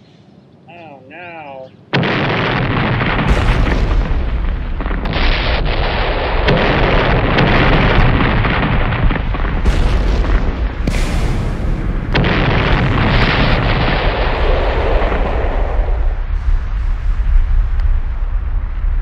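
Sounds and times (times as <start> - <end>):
explosion blast with deep rumble: 1.9 - 19.0.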